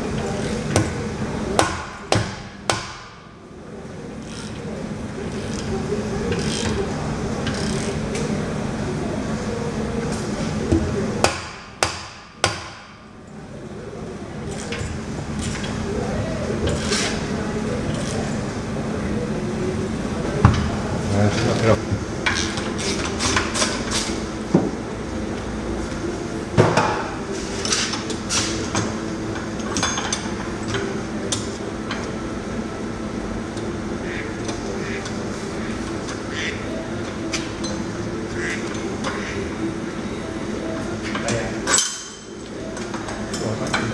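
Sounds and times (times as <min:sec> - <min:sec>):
workshop hum: 0:00.0 - 0:43.9.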